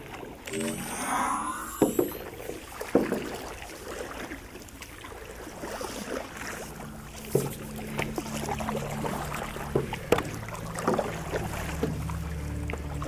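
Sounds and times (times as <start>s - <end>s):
water gurgling and dripping: 0.0s - 13.0s
paddle splashing in water: 2.0s - 13.0s.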